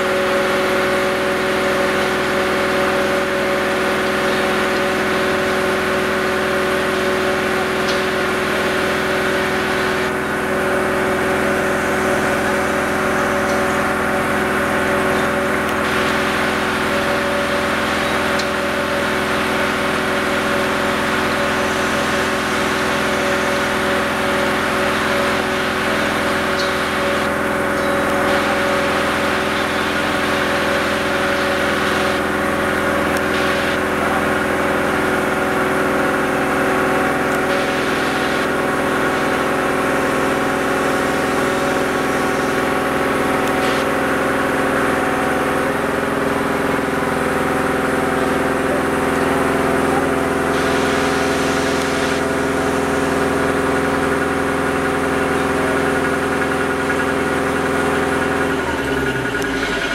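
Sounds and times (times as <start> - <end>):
hoist engine running under load: 0.0 - 59.9.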